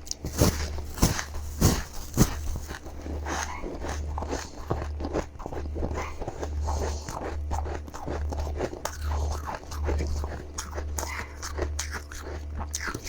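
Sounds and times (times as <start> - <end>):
chewing crunchy frost: 0.0 - 13.0
low steady hum: 0.0 - 13.0.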